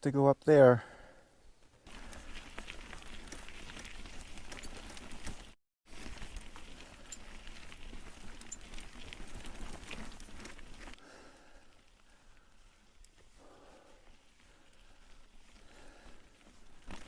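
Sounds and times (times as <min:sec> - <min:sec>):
bike tyres crunching on dirt: 0:01.6 - 0:17.0
bike rattling: 0:01.8 - 0:17.0.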